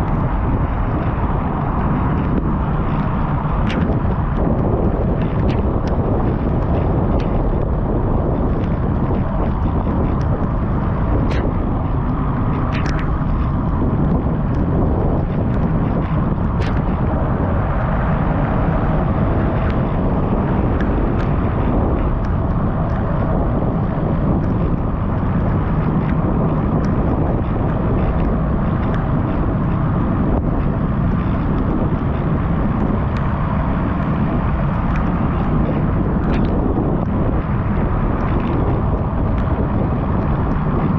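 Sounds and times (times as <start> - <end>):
faint clicks and ticks: 0.0 - 40.9
wind rumble on microphone: 0.0 - 40.9.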